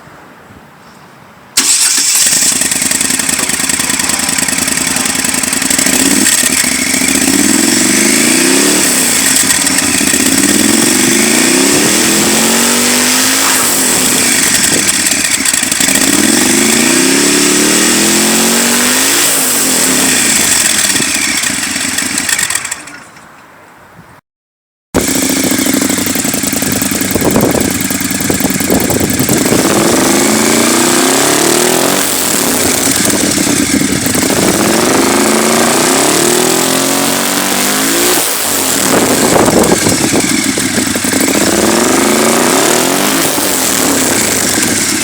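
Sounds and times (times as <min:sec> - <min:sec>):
motorcycle engine revving: 0:01.6 - 0:23.0, 0:25.0 - 0:45.0.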